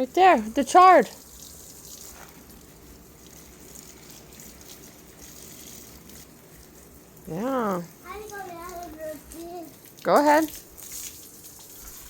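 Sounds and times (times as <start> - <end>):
water splashing onto plants: 0.0 - 12.0.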